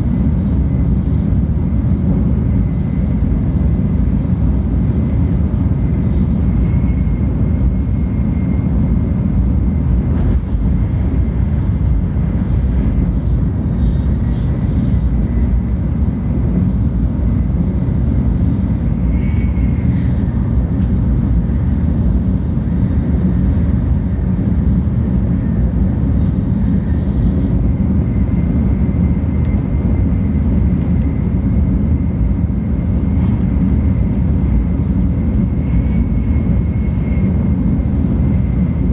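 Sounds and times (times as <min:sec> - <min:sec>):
faint high whine: 0:00.0 - 0:38.9.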